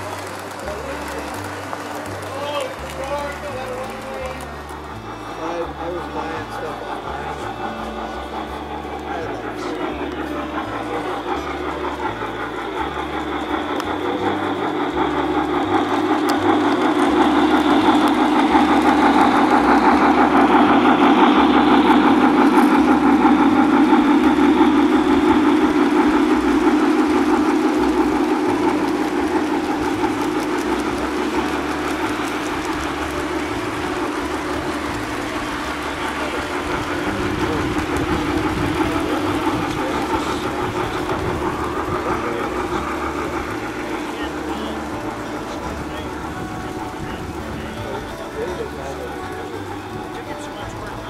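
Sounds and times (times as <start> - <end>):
toy train wheels rumbling on rails: 0.0 - 51.0.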